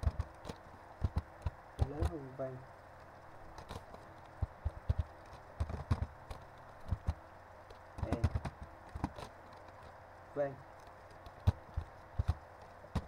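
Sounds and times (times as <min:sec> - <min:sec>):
computer keyboard typing: 0:00.0 - 0:02.3, 0:03.5 - 0:09.9, 0:10.8 - 0:13.0.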